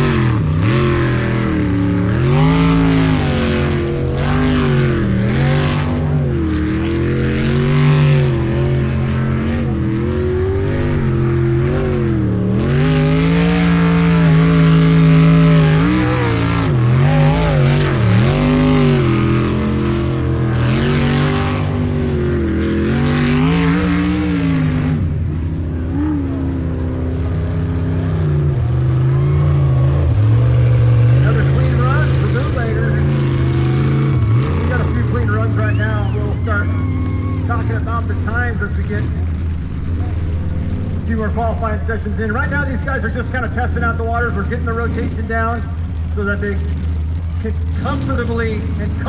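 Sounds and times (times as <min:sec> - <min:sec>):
boat engine revving: 0:00.0 - 0:49.0.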